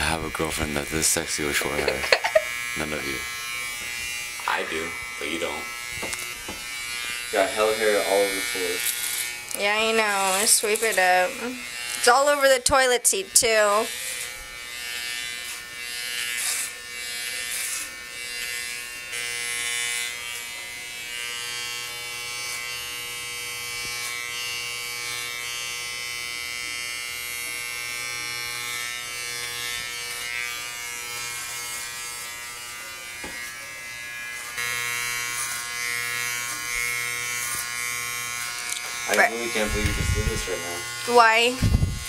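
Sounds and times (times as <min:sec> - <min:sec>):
electric hair clippers buzzing: 0:00.0 - 0:42.0.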